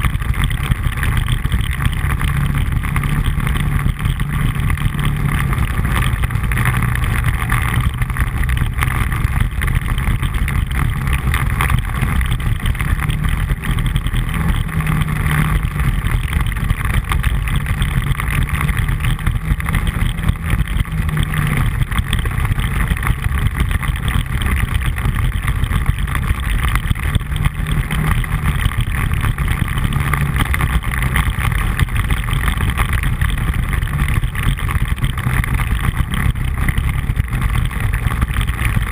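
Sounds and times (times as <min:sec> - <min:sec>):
quad bike engine running: 0:00.0 - 0:38.9
tyres rumbling on gravel: 0:00.0 - 0:38.9.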